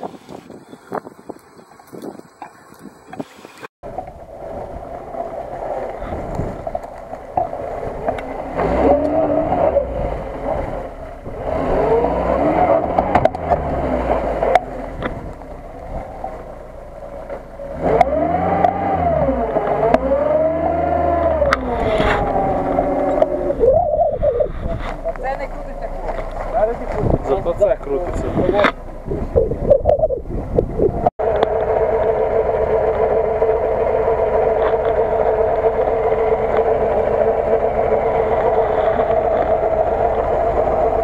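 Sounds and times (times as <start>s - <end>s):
car engine revving: 4.2s - 29.8s, 30.8s - 41.0s.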